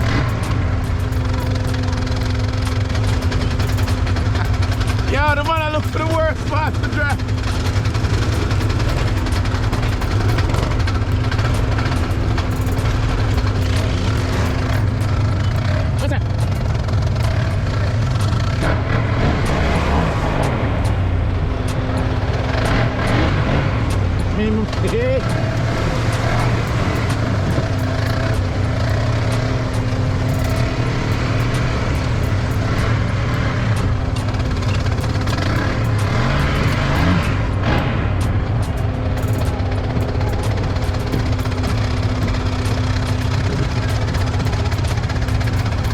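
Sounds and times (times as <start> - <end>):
atv engine droning: 0.0 - 45.9
knocks and rattles: 0.0 - 45.9.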